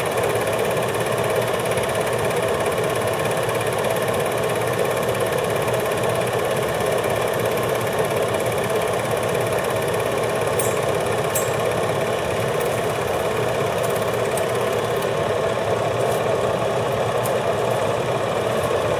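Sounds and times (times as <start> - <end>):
film projector whirring: 0.0 - 18.9.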